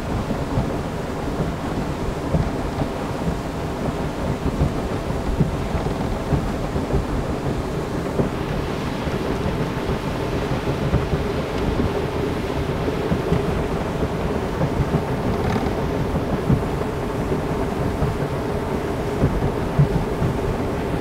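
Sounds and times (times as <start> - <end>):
faint outboard engine tone: 0.0 - 21.0
rumble of wind and water: 0.0 - 21.0.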